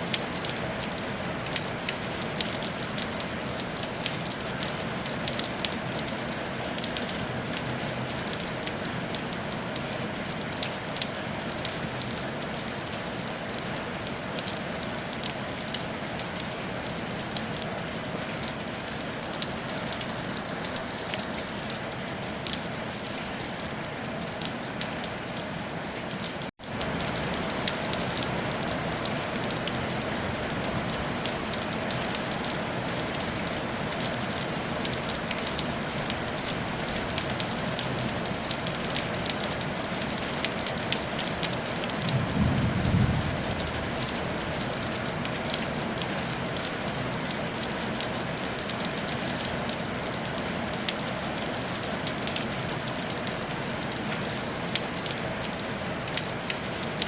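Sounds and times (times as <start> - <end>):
rain on a tile roof: 0.0 - 57.0.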